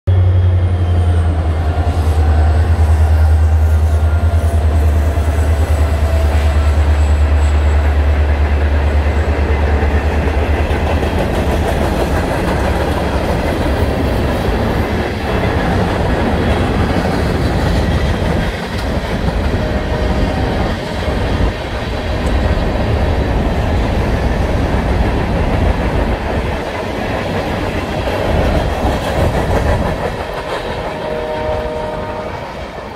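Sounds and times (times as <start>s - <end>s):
deep train rumble: 0.1s - 32.9s
train wheels clacking on rails: 0.3s - 32.9s.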